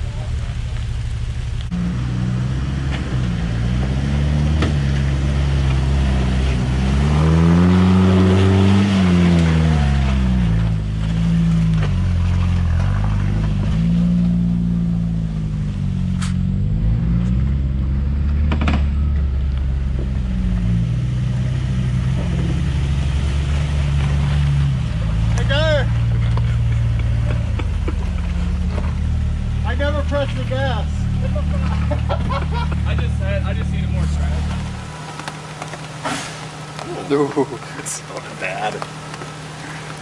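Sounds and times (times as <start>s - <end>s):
car engine revving under load: 0.0s - 40.0s.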